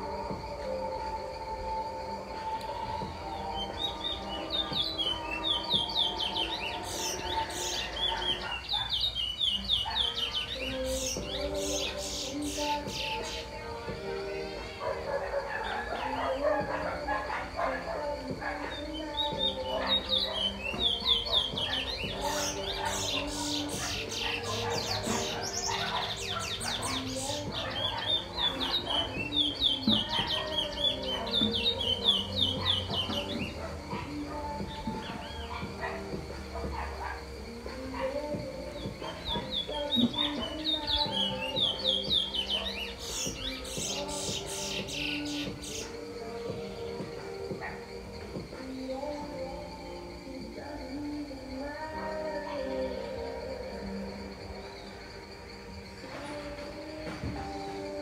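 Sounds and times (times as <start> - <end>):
bird chirping: 0.0 - 58.0
steady background tones: 0.0 - 58.0.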